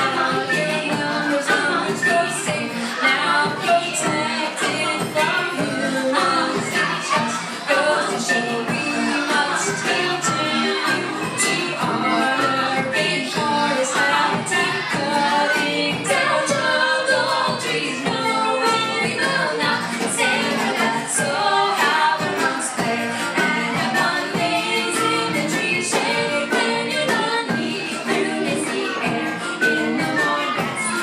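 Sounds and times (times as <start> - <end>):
live pop band playing: 0.0 - 31.0
voices singing: 0.0 - 31.0.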